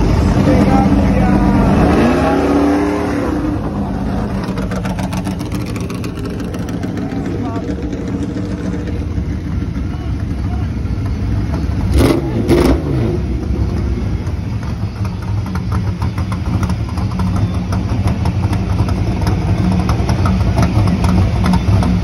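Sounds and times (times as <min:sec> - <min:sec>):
engine revving: 0:00.0 - 0:22.0
race car engines idling: 0:00.0 - 0:22.0.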